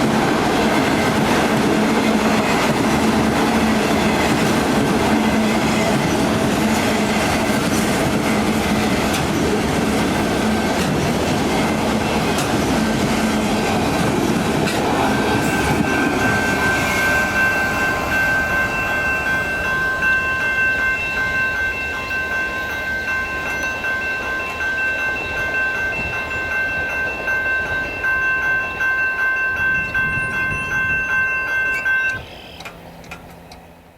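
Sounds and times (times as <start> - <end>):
train wheels clattering on rails: 0.0 - 33.7
steady high ringing: 0.4 - 32.6.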